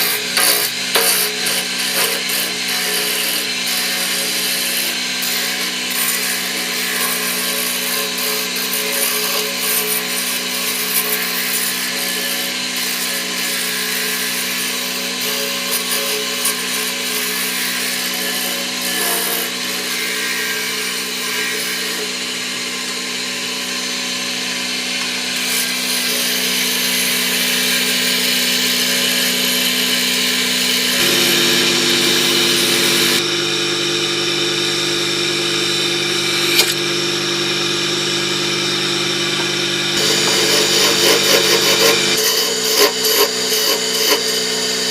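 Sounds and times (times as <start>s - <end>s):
turning tool scraping wood: 0.0s - 23.0s, 25.0s - 33.2s, 39.3s - 44.9s
wood lathe motor humming: 0.0s - 44.9s.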